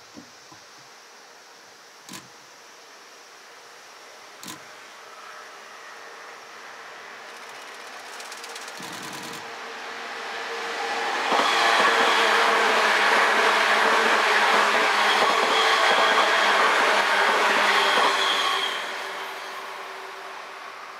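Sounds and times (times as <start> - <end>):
train passing at speed: 3.2 - 20.9.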